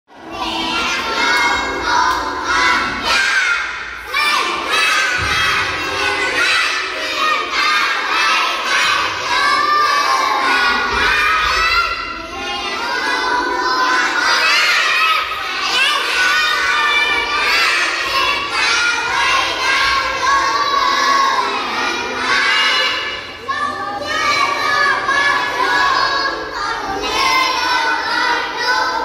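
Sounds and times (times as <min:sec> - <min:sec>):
children singing loudly: 0:00.1 - 0:29.0.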